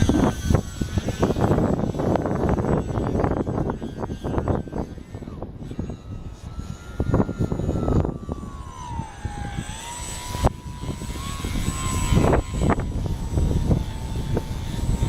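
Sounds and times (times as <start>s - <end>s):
model airplane motor whining: 0.0s - 15.0s
wind buffeting microphone: 0.0s - 15.0s.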